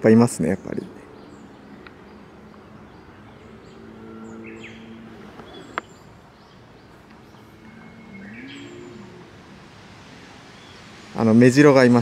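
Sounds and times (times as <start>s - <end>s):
low steady hum: 0.0s - 12.0s
wild birds chirping: 0.0s - 12.0s.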